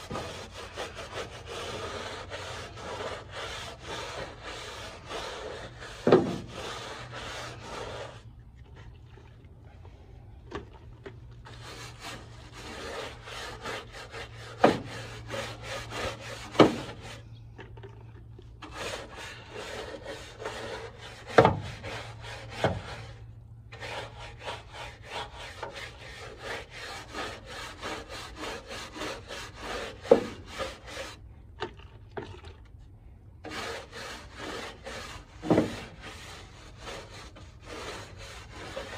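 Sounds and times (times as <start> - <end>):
stiff brush scrubbing metal: 0.0 - 8.9, 10.0 - 31.3, 33.4 - 38.9.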